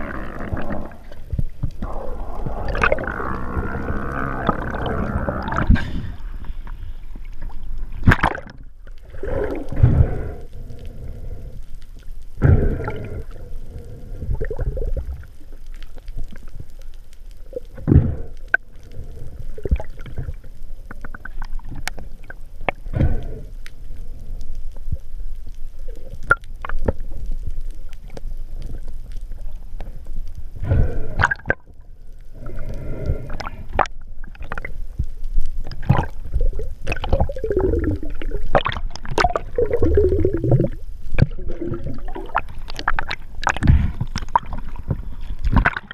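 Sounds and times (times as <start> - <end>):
underwater water rush with gurgling: 0.0 - 45.9.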